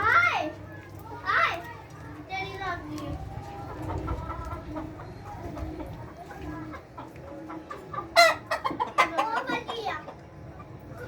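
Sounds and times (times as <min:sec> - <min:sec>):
hens clucking: 0:00.1 - 0:11.0.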